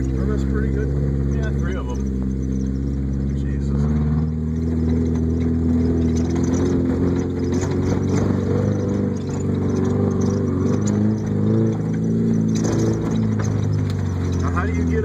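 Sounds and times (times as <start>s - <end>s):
car engine revving in cabin: 0.0s - 15.0s
light knocks and rattles: 0.0s - 15.0s.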